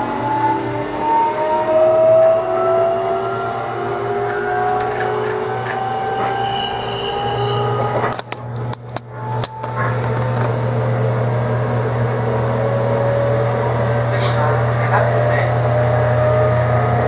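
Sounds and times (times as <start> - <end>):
low hum and wheel noise: 0.0 - 17.0
train motors whining: 0.0 - 17.0.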